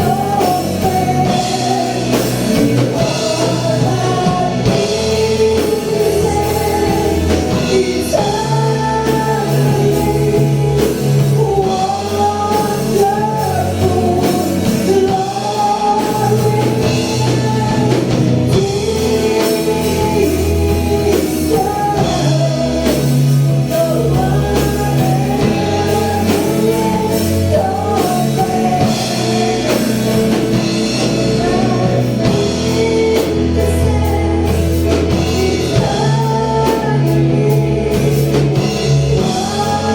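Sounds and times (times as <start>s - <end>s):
band with guitar bass and drums: 0.0s - 39.9s
person singing: 0.0s - 39.9s.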